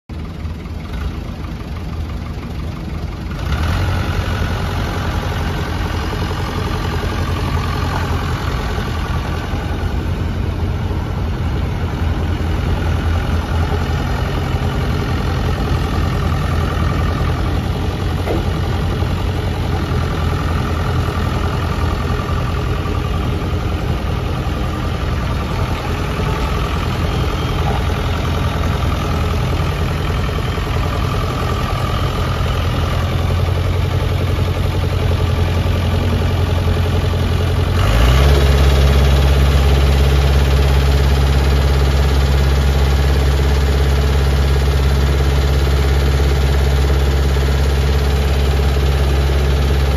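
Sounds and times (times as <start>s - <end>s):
diesel engine idling: 0.1s - 49.9s.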